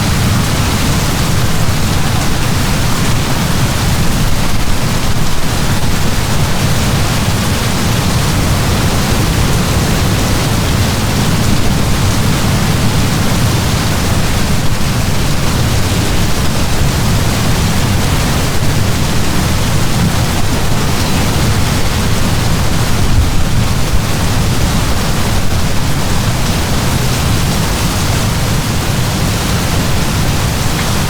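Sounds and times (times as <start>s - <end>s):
deep rumble: 0.0s - 26.2s
heavy rain hissing: 0.0s - 31.0s.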